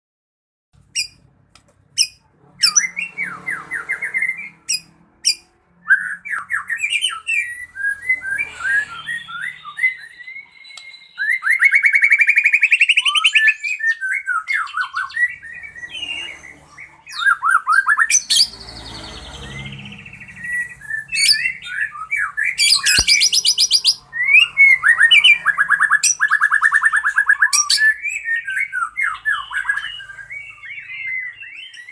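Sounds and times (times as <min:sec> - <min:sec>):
bird singing whistled song: 0:02.0 - 0:31.9.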